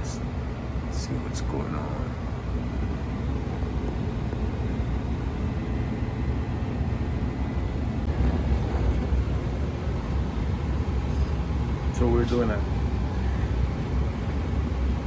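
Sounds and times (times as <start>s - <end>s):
faint high whine: 0.0s - 15.0s
gas furnace low rumble: 0.0s - 15.0s.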